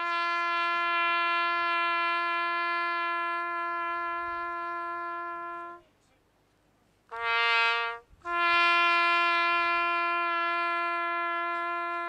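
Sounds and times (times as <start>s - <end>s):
brass instrument long note: 0.0s - 5.8s, 7.1s - 12.0s.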